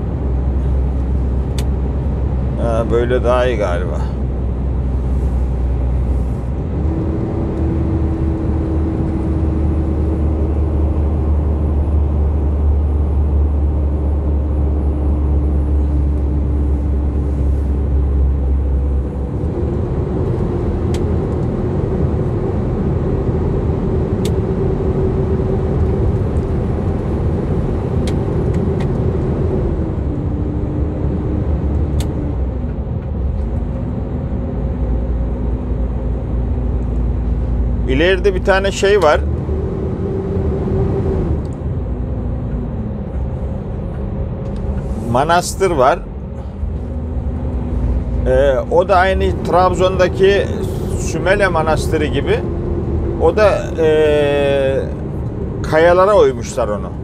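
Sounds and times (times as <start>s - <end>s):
road rumble: 0.0s - 57.0s
truck engine drone: 0.0s - 57.0s.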